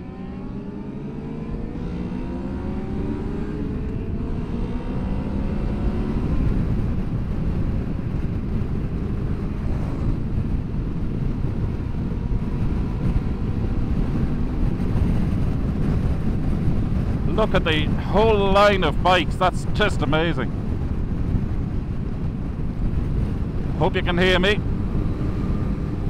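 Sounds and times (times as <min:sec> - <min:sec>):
motorcycle engine accelerating: 0:00.0 - 0:26.0
rushing wind noise: 0:00.0 - 0:26.0.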